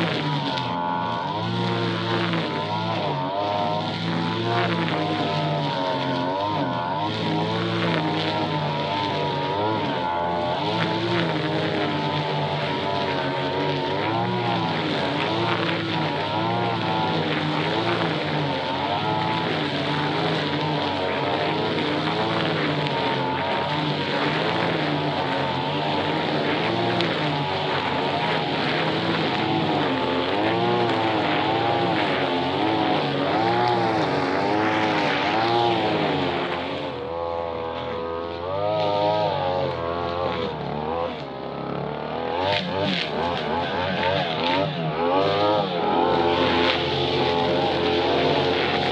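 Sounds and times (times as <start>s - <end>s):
brush cutter engine running hard: 0.0s - 48.9s.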